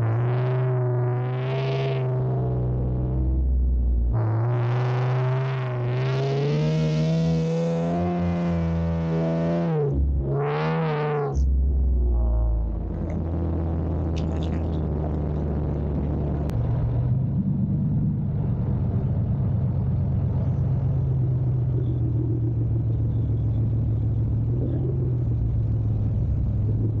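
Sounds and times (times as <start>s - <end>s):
car engine drone: 0.0s - 27.0s.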